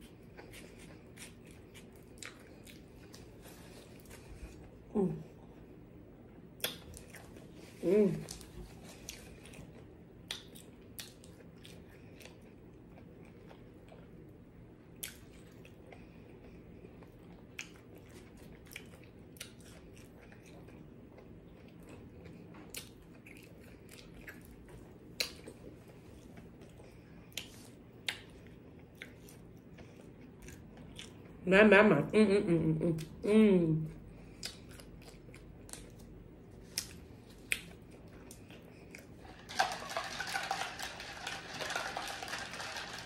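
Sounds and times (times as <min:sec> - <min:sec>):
chewing and crunching food: 0:00.0 - 0:05.8, 0:06.6 - 0:31.4, 0:34.1 - 0:43.0.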